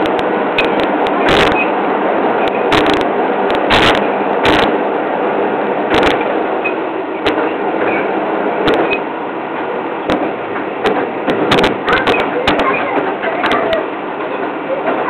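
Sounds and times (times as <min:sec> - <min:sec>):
sharp clicks and knocks: 0:00.0 - 0:01.7, 0:02.4 - 0:04.8, 0:05.9 - 0:15.0
train rumble: 0:00.0 - 0:15.0.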